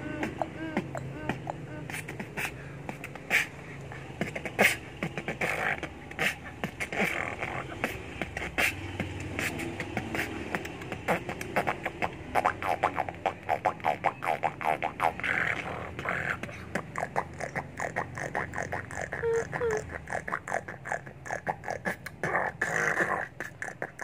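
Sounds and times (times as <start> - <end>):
boy beatboxing: 0.0 - 24.0.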